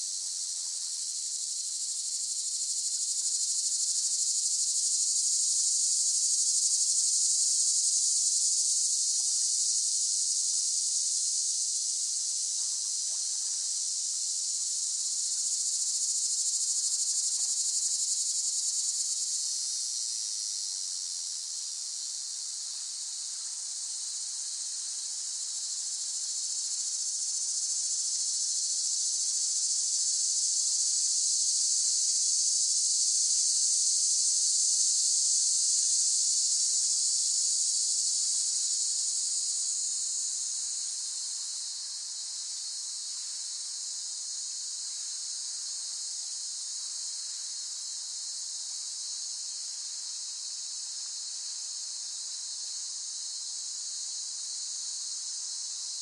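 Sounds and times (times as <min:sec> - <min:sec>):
cicadas buzzing: 0:00.9 - 0:22.1, 0:22.7 - 0:48.0, 0:48.6 - 0:56.0.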